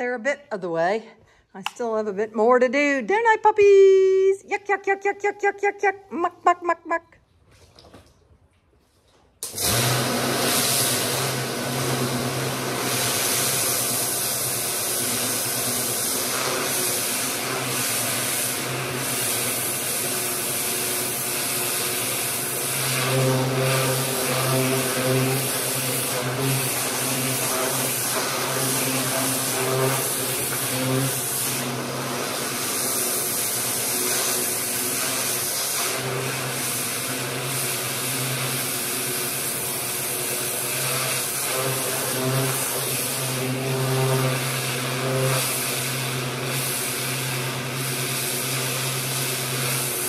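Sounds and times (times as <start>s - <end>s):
pressure washer motor hum: 9.4s - 50.0s
water jet hissing: 9.5s - 50.0s.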